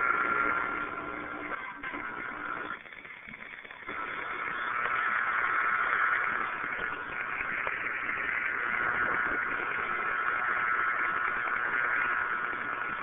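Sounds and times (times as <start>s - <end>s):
radio static hiss and crackle: 0.0s - 13.0s.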